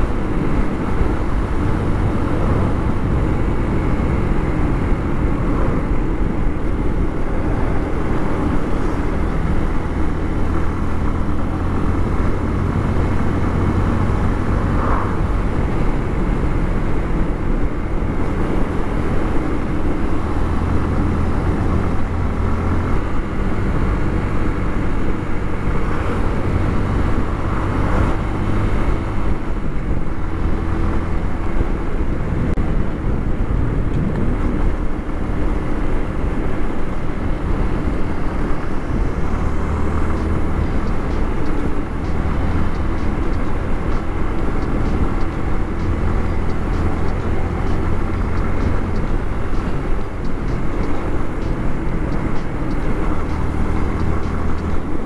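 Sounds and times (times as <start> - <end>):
motorcycle engine cruising: 0.0 - 55.0
road noise: 0.0 - 55.0.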